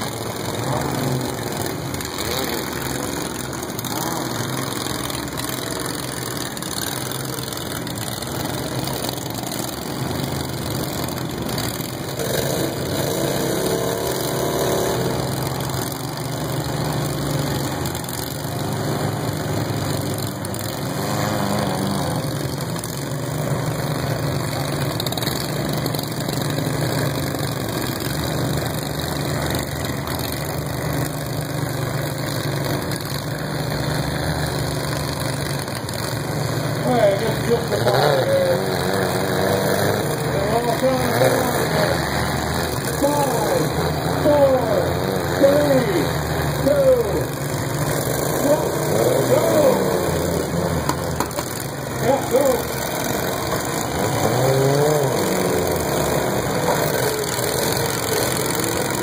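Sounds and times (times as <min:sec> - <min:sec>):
riding lawn mower engines: 0:00.0 - 0:59.0.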